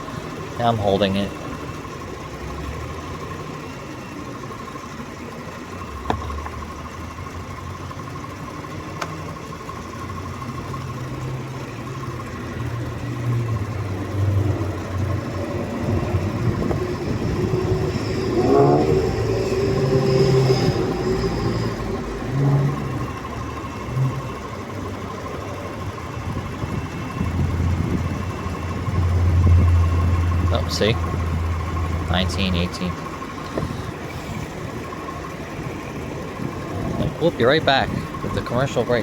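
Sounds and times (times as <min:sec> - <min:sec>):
air conditioning whine: 0:00.0 - 0:39.0
car engine idling: 0:00.0 - 0:39.0.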